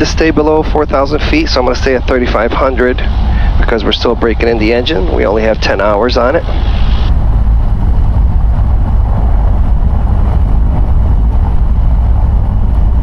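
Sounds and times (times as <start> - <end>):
aircraft piston engine running: 0.0 - 13.0.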